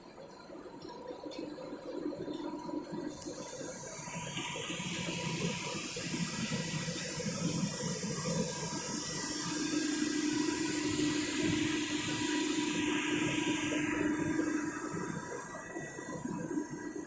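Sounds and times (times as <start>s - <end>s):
machine hum: 0.0s - 17.0s
coolant splashing over lathe work: 0.3s - 17.0s.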